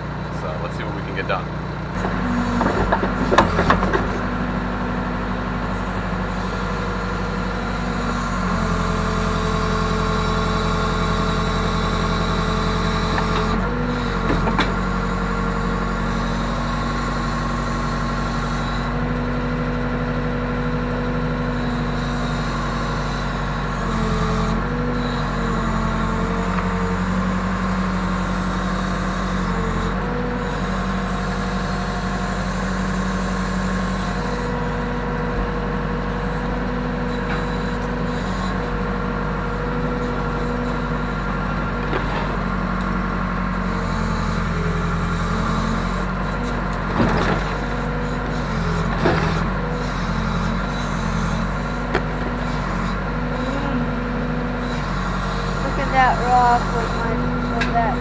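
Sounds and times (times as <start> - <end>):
backhoe diesel engine under load: 0.0 - 58.0.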